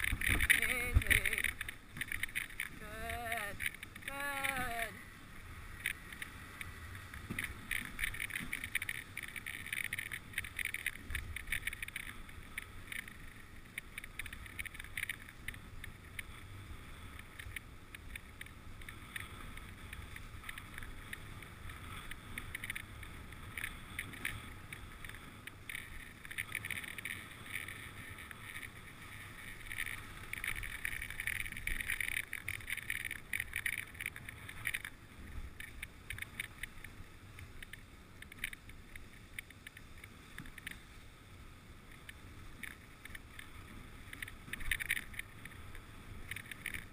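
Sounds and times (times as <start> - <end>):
sled runners scraping over snow: 0.0 - 46.9.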